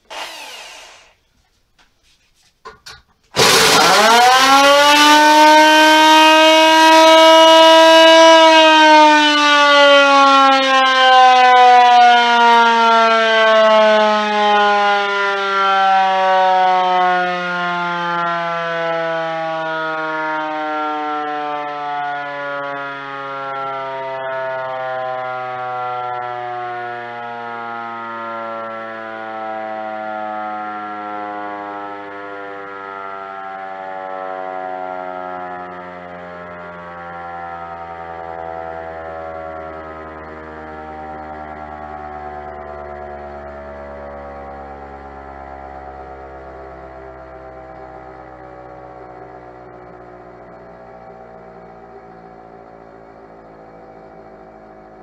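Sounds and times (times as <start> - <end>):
siren wailing: 0.0 - 1.2, 3.4 - 55.0.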